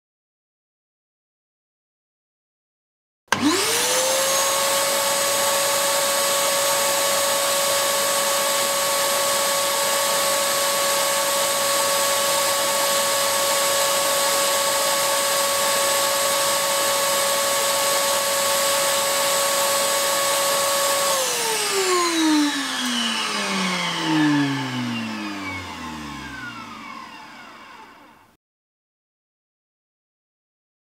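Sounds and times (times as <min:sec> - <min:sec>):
shop vacuum motor whining: 0:03.3 - 0:28.4.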